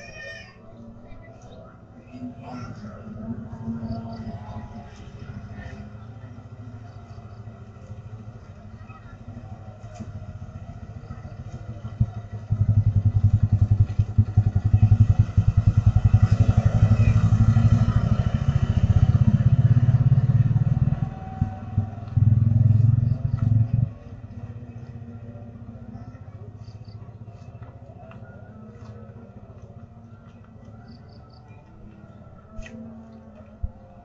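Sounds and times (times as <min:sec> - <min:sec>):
motor scooter engine running: 0:03.0 - 0:31.4.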